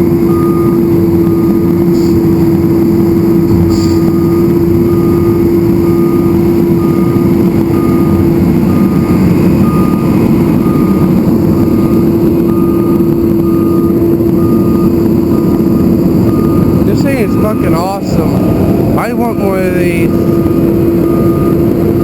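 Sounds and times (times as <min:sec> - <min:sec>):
heavy machinery engines humming: 0:00.0 - 0:22.0
reversing alarm beeping: 0:00.0 - 0:22.0.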